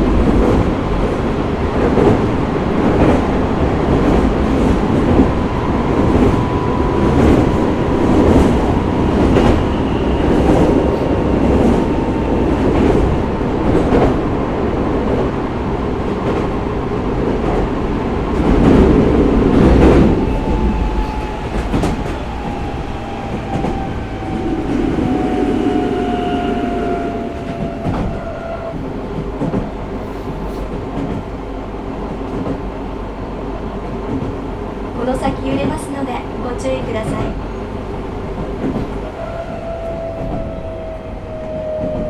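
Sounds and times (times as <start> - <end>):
rail joint clicks: 0.0 - 42.0
train wheel and rail rumble: 0.0 - 42.0.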